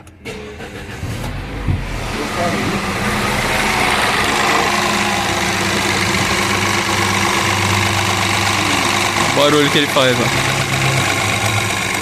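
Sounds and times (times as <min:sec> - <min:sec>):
car engine idling: 0:00.0 - 0:12.0
engine rattling: 0:00.0 - 0:12.0.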